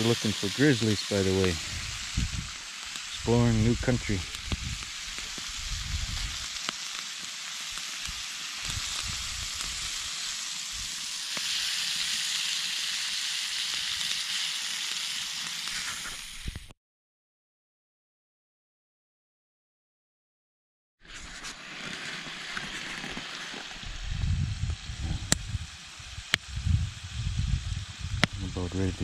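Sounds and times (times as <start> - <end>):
meat sizzling in a skillet: 0.0 - 16.7, 21.4 - 29.0.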